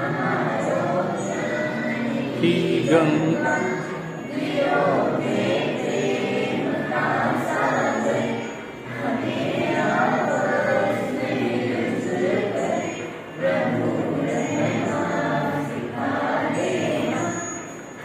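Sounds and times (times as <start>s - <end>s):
group singing a prayer: 0.0s - 18.0s.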